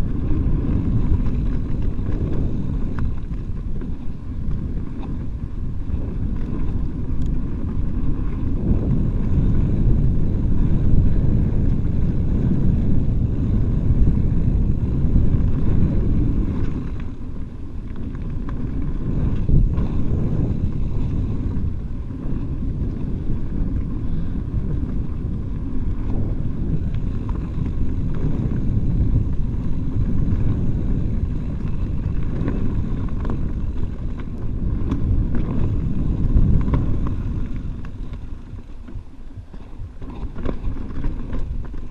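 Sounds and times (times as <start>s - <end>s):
bike tyres rolling over dirt: 0.0s - 41.9s
wind rushing over microphone: 0.0s - 41.9s
faint knocks from trail bumps: 0.1s - 12.9s, 13.9s - 41.9s.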